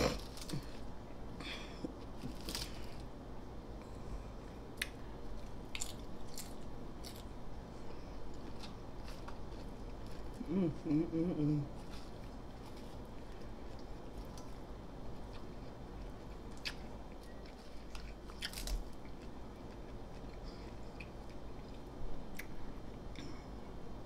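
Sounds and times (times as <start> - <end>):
chewing potato chips: 0.0 - 1.0, 1.9 - 3.1, 4.7 - 23.8.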